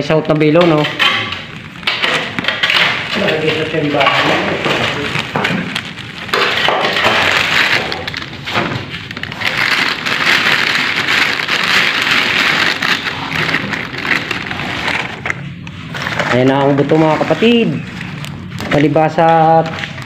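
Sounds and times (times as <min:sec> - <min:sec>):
plastic sheeting crinkling: 0:00.7 - 0:20.0.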